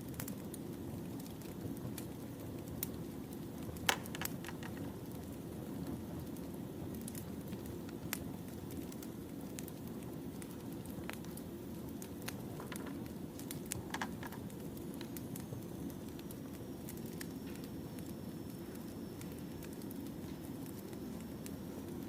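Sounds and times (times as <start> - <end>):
fire crackling and popping: 0.1 - 22.0.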